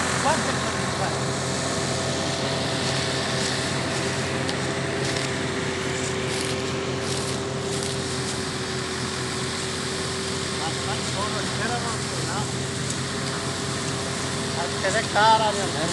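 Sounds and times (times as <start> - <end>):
engine droning steadily: 0.0 - 15.9.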